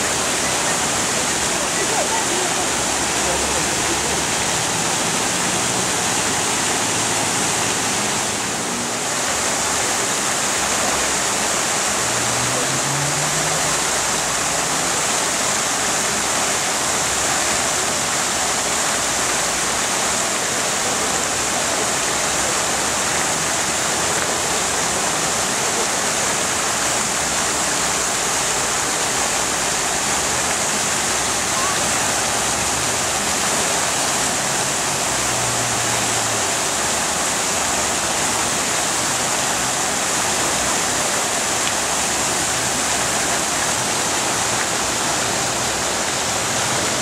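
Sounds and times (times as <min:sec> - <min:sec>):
fountain water splashing: 0:00.0 - 0:47.0.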